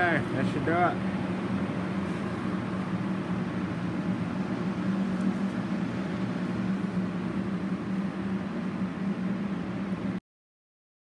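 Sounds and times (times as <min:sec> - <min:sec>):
exhaust fans humming: 0:00.0 - 0:10.2
rushing air: 0:00.0 - 0:10.2.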